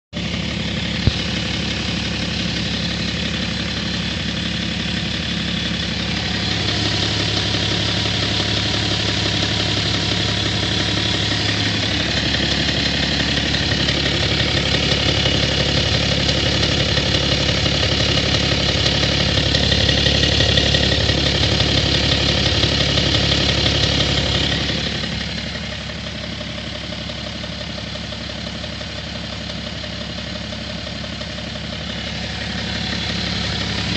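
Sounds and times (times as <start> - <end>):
diesel engine idling: 0.2 - 33.9
regular engine knock: 0.2 - 33.9.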